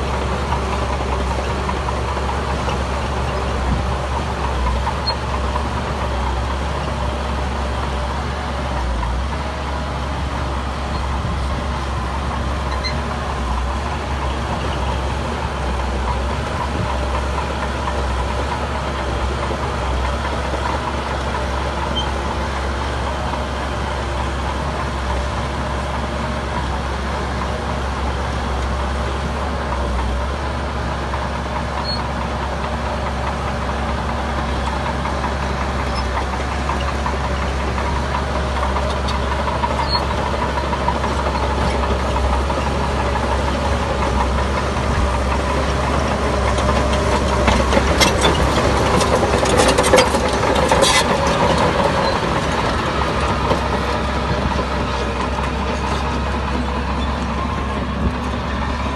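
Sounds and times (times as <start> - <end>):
heavy diesel engine rumbling: 0.0 - 58.9.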